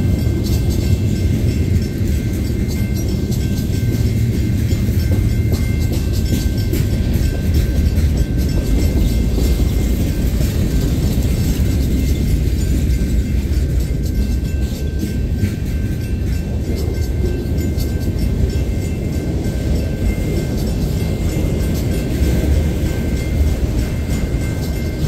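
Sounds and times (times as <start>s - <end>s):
freight train rumbling: 0.0s - 25.0s
wheels clicking on rail joints: 0.0s - 25.0s.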